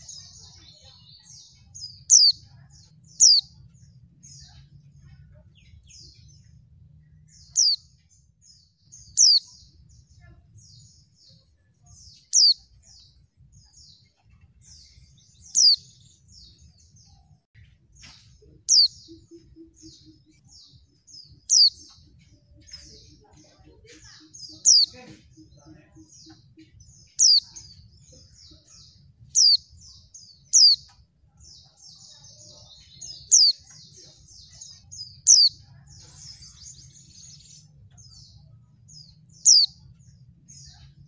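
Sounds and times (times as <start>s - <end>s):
soft twittering chirps: 0.0s - 41.0s.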